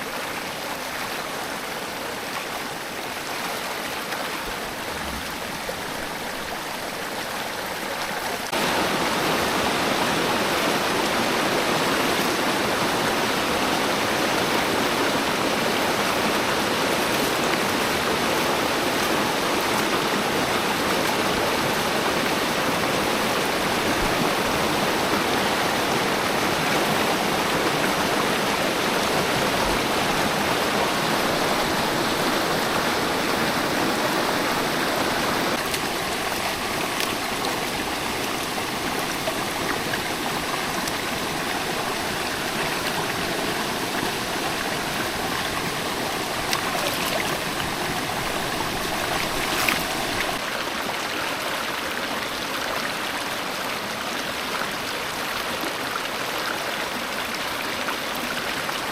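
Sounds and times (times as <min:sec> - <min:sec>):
stream water rushing: 0:00.0 - 0:58.9.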